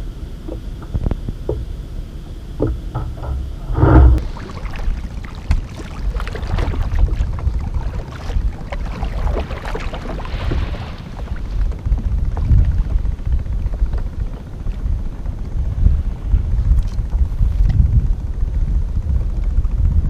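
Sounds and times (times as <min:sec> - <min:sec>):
boat motor and water rumble: 0:00.0 - 0:20.0
wind buffeting microphone: 0:02.5 - 0:20.0.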